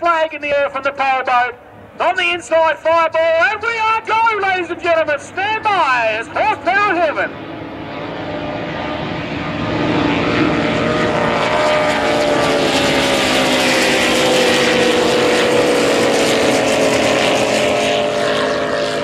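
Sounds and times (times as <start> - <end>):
powerboat engines at full throttle: 0.5 - 19.0.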